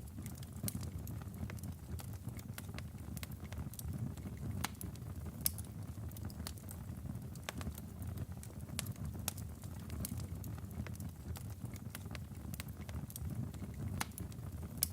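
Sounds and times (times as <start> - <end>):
fire burning with low rumble: 0.0 - 14.9
logs crackling and popping: 0.1 - 14.9.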